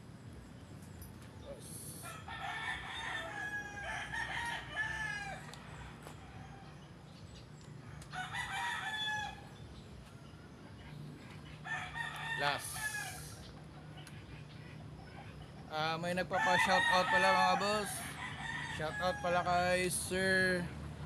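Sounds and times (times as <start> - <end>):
roosters crowing: 1.8 - 7.2, 7.8 - 20.7.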